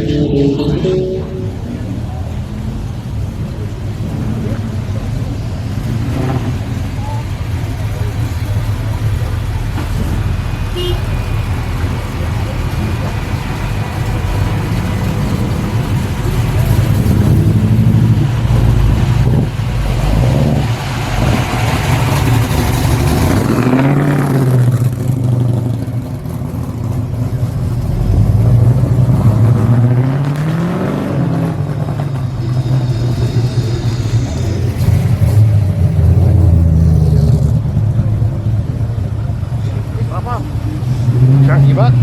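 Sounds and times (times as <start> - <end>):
car engines revving past: 0.0 - 42.0.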